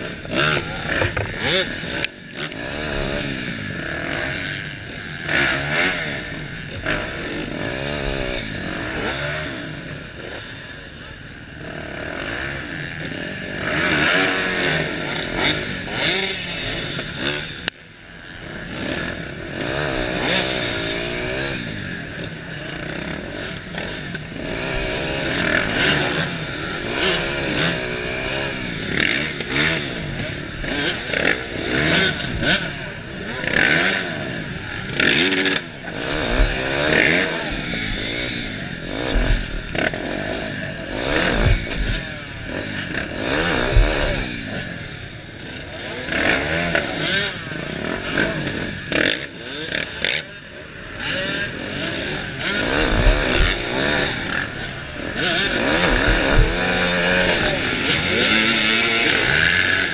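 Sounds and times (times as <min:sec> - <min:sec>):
dirt bike engine revving: 0:00.0 - 0:59.9
other dirt bikes revving: 0:00.0 - 0:59.9.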